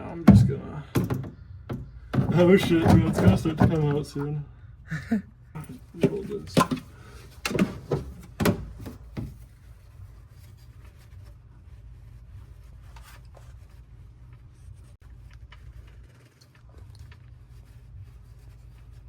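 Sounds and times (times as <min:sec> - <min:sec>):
rubbing and scraping: 0:00.0 - 0:04.3, 0:05.6 - 0:19.0.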